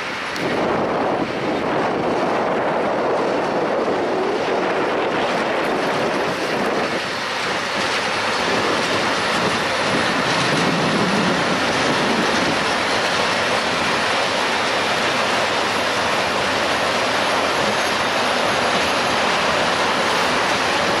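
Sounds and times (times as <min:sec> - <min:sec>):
diesel locomotive engine running: 0:00.0 - 0:21.0
train wheels rolling on rails: 0:00.0 - 0:21.0.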